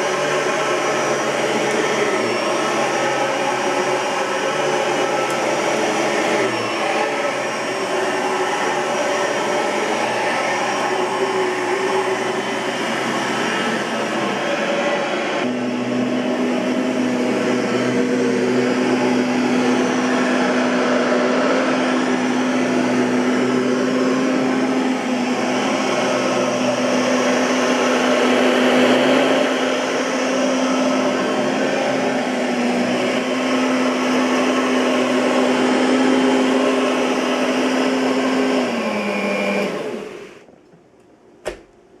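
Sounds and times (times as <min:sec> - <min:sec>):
vacuum motor winding down: 0:00.0 - 0:40.4
vacuum cleaner motor running: 0:00.0 - 0:40.5.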